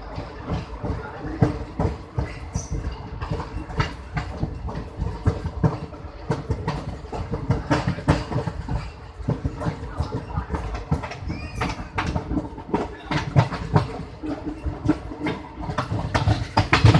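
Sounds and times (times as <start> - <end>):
steady train rumble: 0.0 - 16.9
train wheels clattering over rail joints: 0.0 - 16.9.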